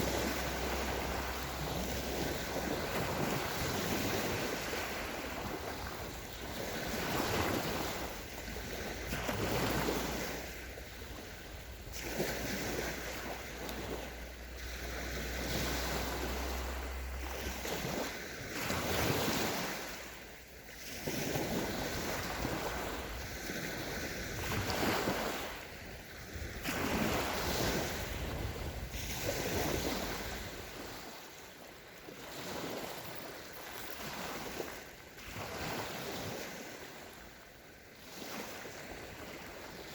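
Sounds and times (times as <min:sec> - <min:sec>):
wind on microphone: 0:00.0 - 0:37.2
sea waves washing on beach: 0:00.0 - 0:39.9.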